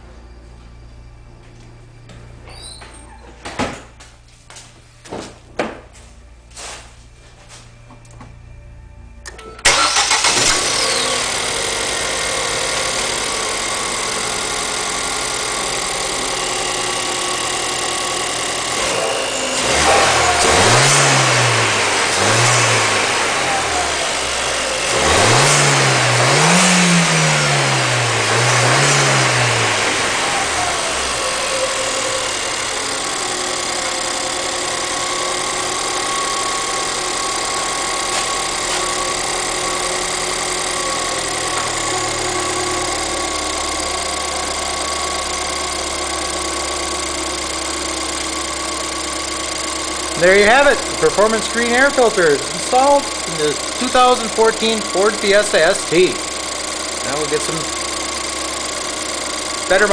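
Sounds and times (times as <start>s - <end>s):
car engine starting and idling: 0.0s - 59.9s
car engine revving: 7.5s - 59.9s.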